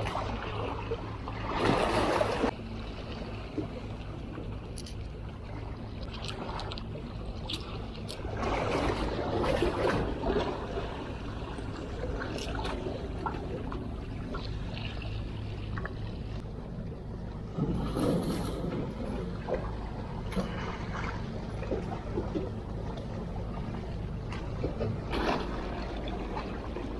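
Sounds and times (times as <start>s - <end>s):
sea water lapping at shore: 0.0s - 26.9s
steady low hum: 0.0s - 26.9s.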